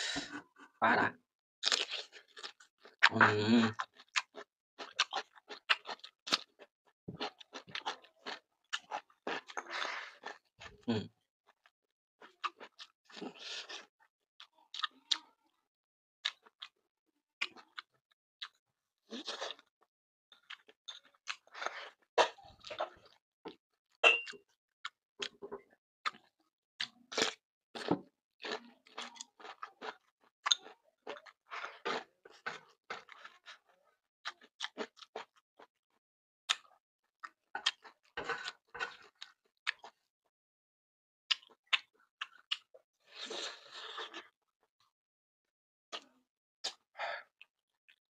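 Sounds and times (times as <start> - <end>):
person chewing and crunching food: 1.6 - 15.6, 16.2 - 16.8, 17.4 - 40.1, 41.3 - 44.4, 45.9 - 48.0.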